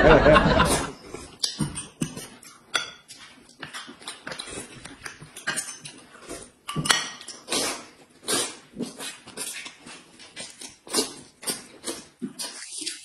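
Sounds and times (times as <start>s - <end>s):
man slurping and chewing noodles: 0.6s - 13.0s.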